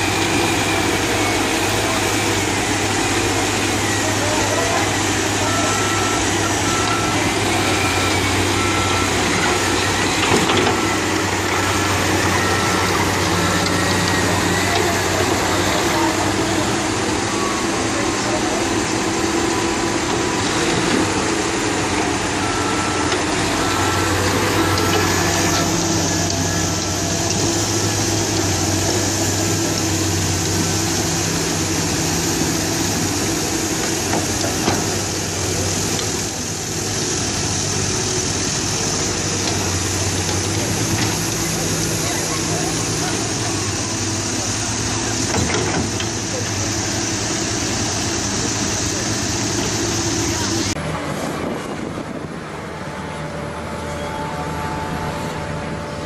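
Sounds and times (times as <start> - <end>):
reversing alarm beeping: 0.0 - 48.0
diesel engines running: 0.0 - 56.0.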